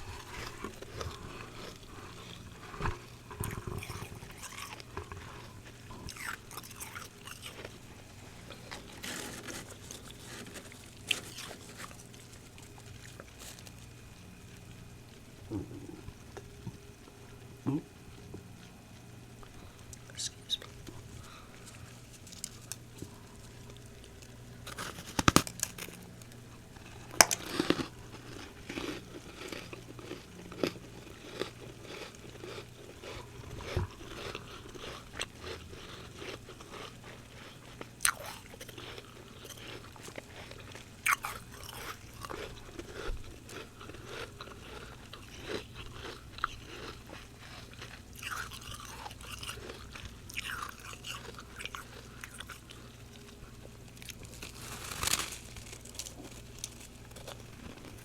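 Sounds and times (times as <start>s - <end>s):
crunching and chewing frost: 0.0s - 58.0s.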